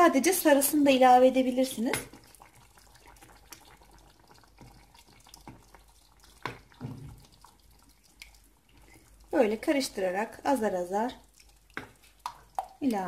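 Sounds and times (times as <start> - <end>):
mixture pouring: 0.5 - 13.0
wooden spoon stirring stew: 1.4 - 13.0.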